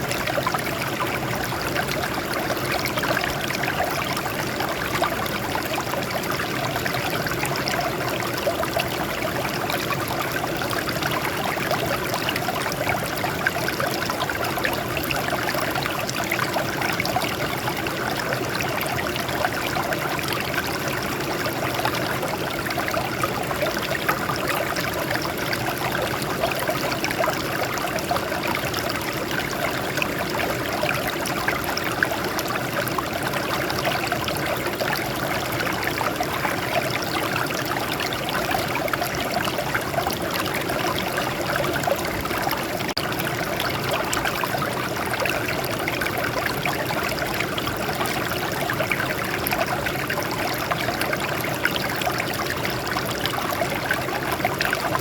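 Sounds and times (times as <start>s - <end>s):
water trickling over rocks: 0.0s - 55.0s.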